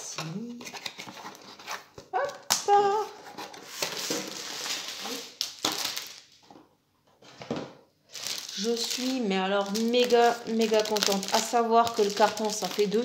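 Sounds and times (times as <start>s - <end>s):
cardboard and plastic rustling: 0.5s - 13.0s.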